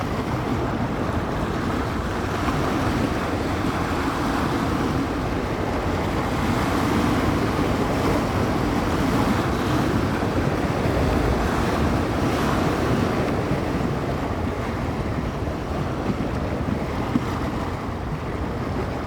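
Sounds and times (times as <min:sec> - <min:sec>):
waves washing against shore: 0:00.0 - 0:19.0
wind buffeting microphone: 0:00.0 - 0:19.0.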